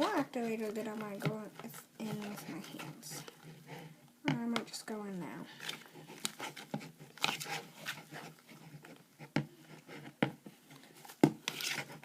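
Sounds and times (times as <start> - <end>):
spoon stirring sticky slime: 0.0 - 12.0.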